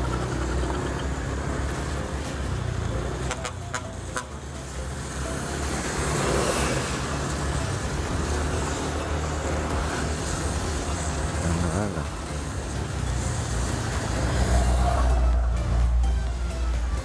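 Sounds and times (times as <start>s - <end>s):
scooter engine and road noise: 0.0s - 17.0s.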